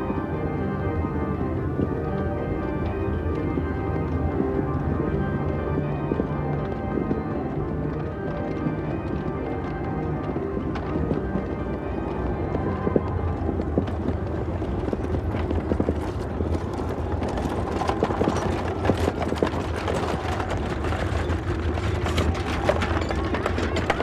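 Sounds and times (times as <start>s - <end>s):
horse hooves clip-clopping: 0.0s - 24.0s
wind noise: 0.0s - 24.0s
wooden wagon rattling: 0.0s - 24.0s.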